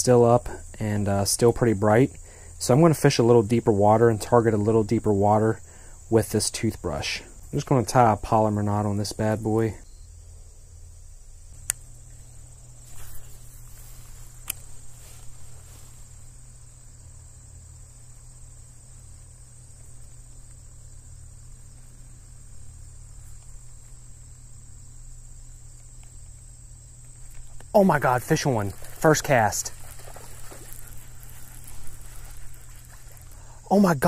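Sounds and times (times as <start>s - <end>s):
crickets chirring: 0.0s - 34.0s
low steady hum: 0.0s - 34.0s.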